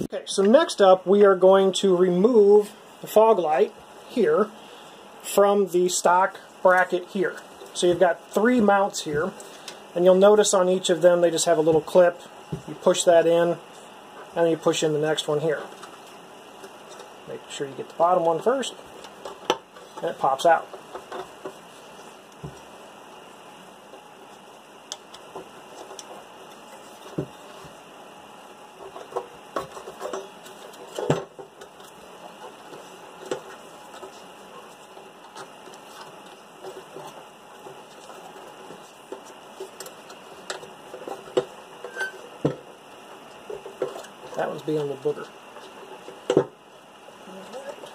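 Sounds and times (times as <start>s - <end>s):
steady low hiss: 0.0s - 47.9s.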